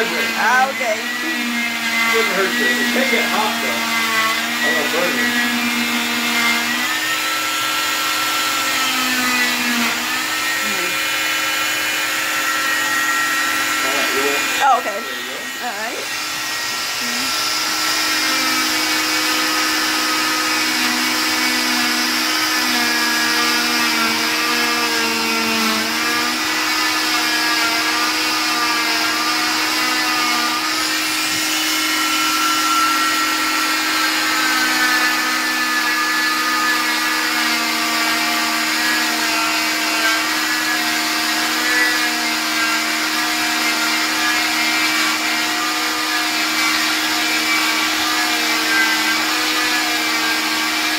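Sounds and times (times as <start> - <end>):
cast saw motor whine: 0.0 - 50.9.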